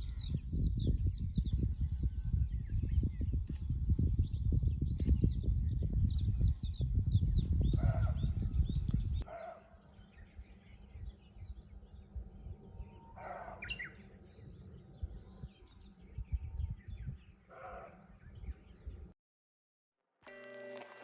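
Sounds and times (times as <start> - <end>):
small birds chirping: 0.0 - 19.2.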